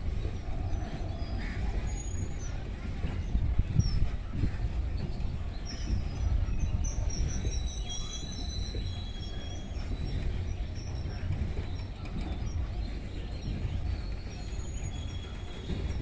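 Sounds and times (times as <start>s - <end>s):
birds chirping: 0.0s - 16.0s
train wagons rumbling over bridge: 0.0s - 16.0s.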